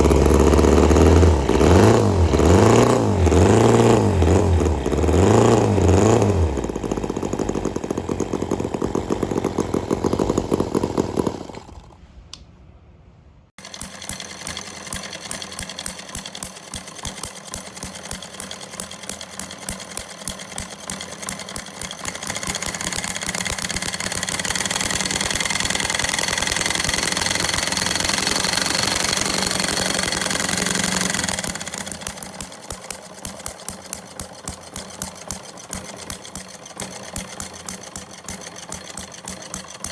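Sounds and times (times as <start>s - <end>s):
small model engine running: 0.0s - 12.0s, 13.6s - 39.9s.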